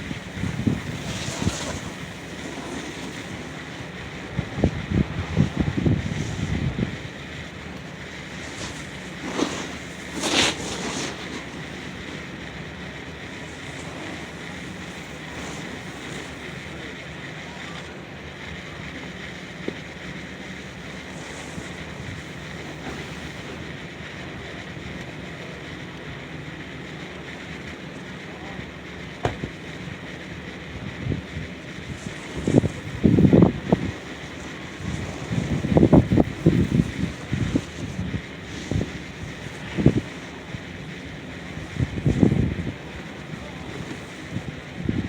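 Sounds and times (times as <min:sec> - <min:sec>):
outdoor ambient noise: 0:00.0 - 0:45.0.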